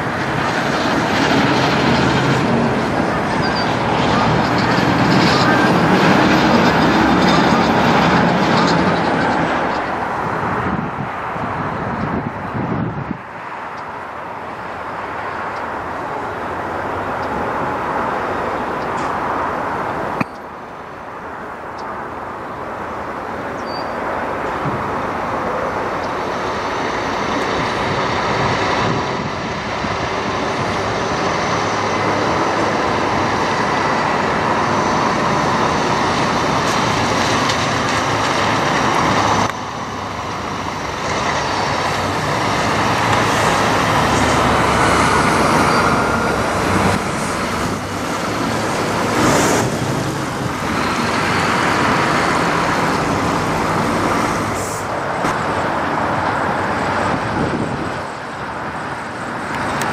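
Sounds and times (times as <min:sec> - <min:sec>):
tyre and road noise: 0:00.0 - 0:59.9.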